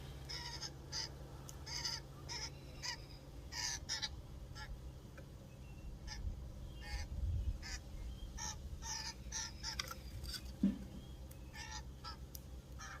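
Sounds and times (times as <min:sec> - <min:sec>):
birds giving harsh nasal calls: 0:00.2 - 0:04.9, 0:05.5 - 0:13.0.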